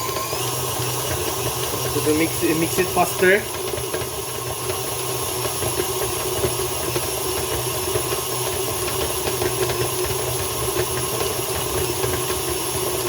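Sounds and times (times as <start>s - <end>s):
electric mixer motor hum: 0.0s - 13.0s.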